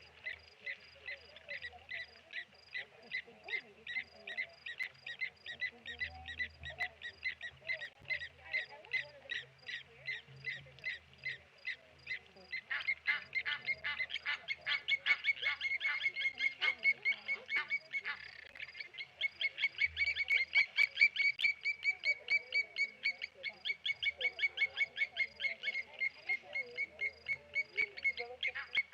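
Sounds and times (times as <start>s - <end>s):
metallic bird alarm calls: 0.2s - 28.9s.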